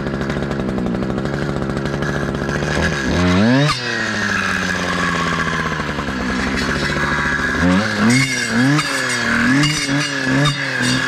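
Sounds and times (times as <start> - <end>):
two-stroke saw engine revving: 0.0 - 11.0.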